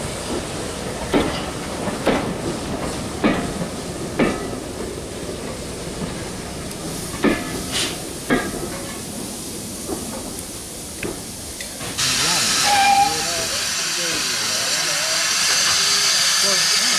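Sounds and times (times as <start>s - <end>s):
railway coaches rolling past: 0.0s - 16.9s
steam hissing from locomotive: 0.0s - 16.9s
wheels clanking over rail joints: 0.2s - 14.2s.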